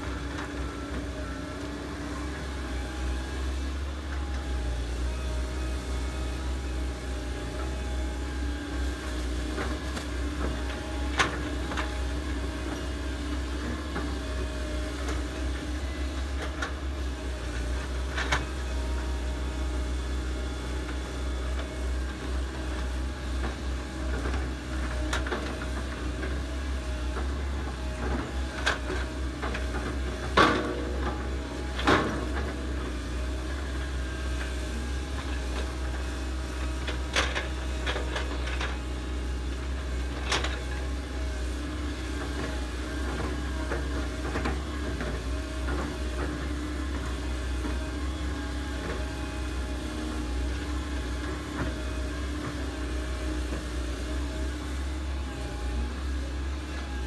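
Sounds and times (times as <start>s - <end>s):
excavator diesel engines: 0.0s - 57.0s.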